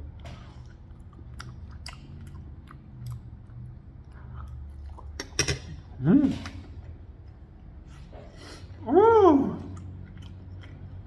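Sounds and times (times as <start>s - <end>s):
chewing food: 0.0s - 8.8s, 9.4s - 11.0s.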